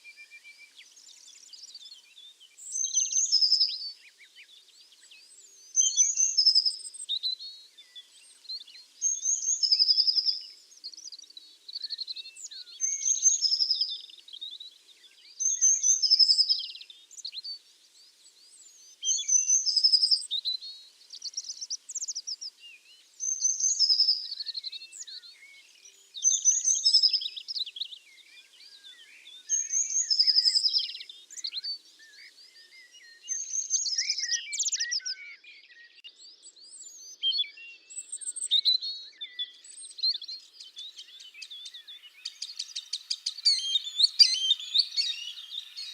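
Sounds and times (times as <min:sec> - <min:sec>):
faint bird chirps: 0:00.0 - 0:45.9
songbird singing repeated phrase: 0:00.0 - 0:45.9.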